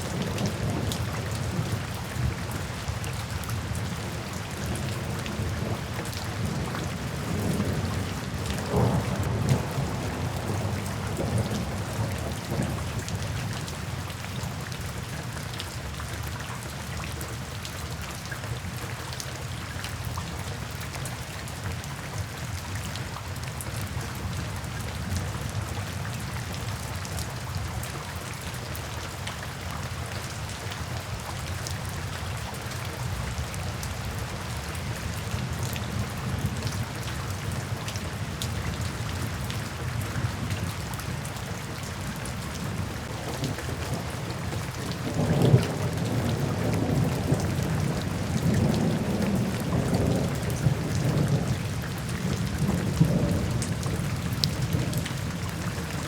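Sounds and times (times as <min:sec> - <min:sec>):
rain falling into puddles: 0:00.0 - 0:56.0.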